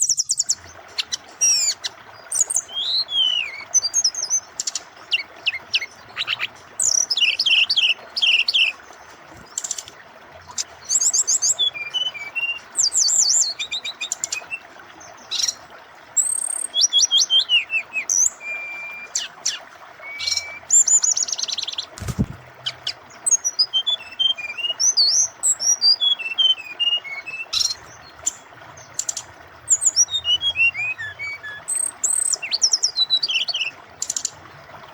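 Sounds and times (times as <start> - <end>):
bird singing chirps and trills: 0.0 - 34.4
running water: 0.0 - 34.9.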